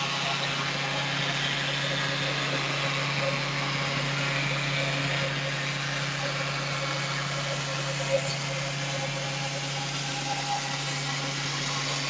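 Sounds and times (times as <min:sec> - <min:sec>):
engraving machine humming: 0:00.0 - 0:12.0.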